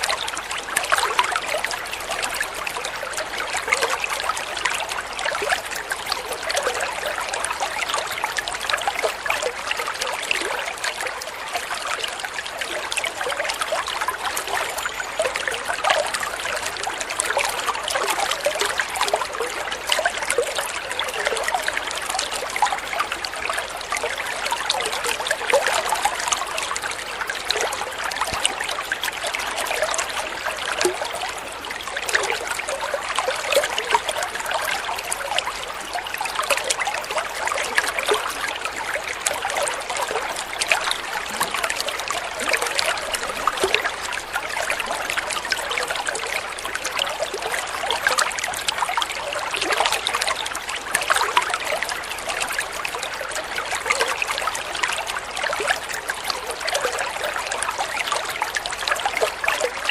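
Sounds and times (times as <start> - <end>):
water flowing and trickling: 0.0 - 59.9.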